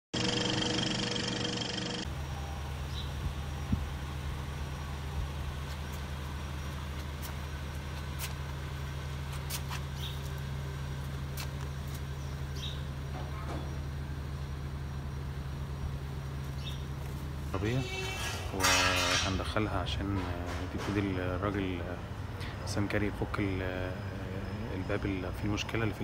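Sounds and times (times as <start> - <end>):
car engine idling: 0.2 - 26.0.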